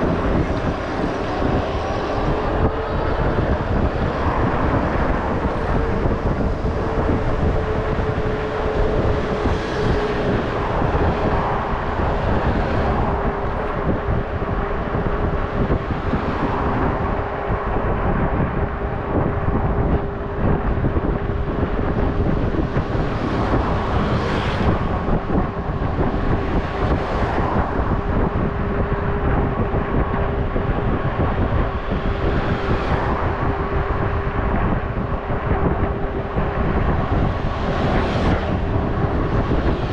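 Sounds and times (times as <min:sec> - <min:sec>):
mid-pitched hum: 0:00.0 - 0:39.9
vehicles swishing past: 0:00.0 - 0:39.9
wind and road noise: 0:00.0 - 0:39.9.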